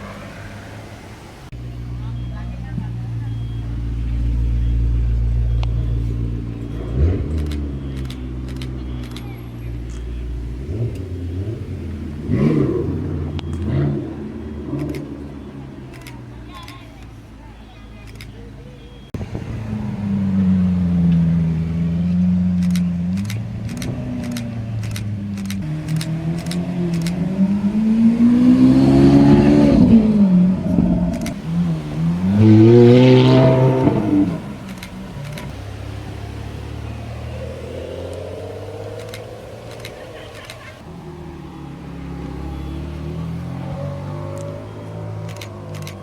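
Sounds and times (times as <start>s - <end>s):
sports car engine revving: 0.0s - 46.0s.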